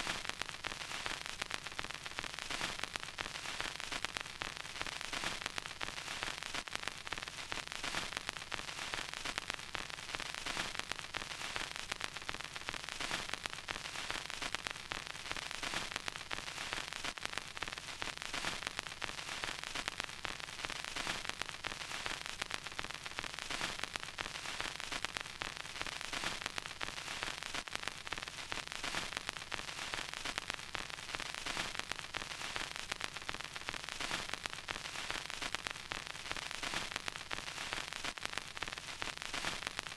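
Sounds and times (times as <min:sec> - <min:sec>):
vinyl record hiss and crackles: 0:00.0 - 0:39.9.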